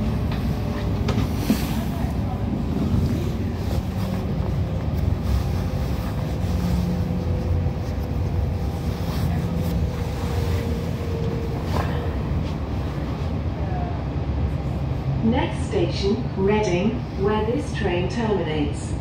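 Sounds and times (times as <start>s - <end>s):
faint train whine: 0.0s - 19.0s
train wheels rumbling: 0.0s - 19.0s.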